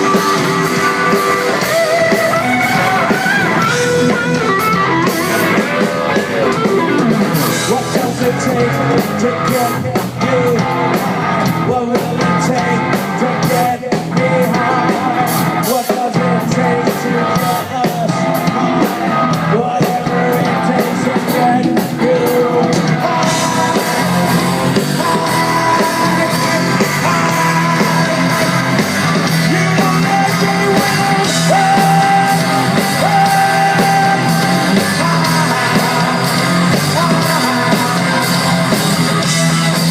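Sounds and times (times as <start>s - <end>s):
drums: 0.0s - 39.9s
electric guitars: 0.0s - 39.9s
person singing: 0.0s - 39.9s.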